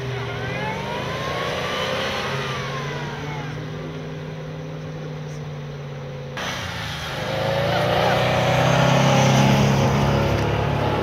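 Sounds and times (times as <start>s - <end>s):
engine pulling under throttle: 0.0s - 5.5s, 6.4s - 11.0s.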